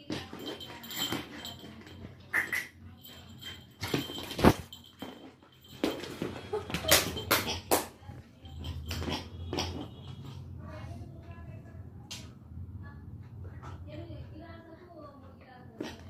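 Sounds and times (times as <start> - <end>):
puppy playing on tiled floor: 0.0 - 16.0.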